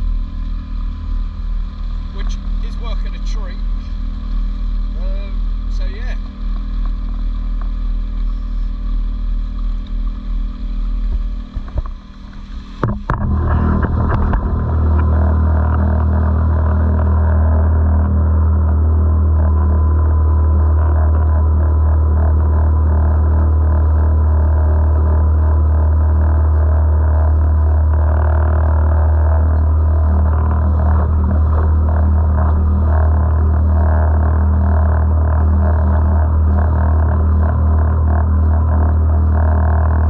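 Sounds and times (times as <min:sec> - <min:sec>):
outboard motor droning: 0:00.0 - 0:40.0.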